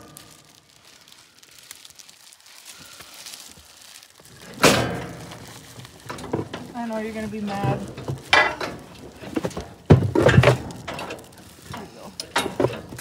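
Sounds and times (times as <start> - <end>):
wet rustling and squelching: 0.0 - 13.0.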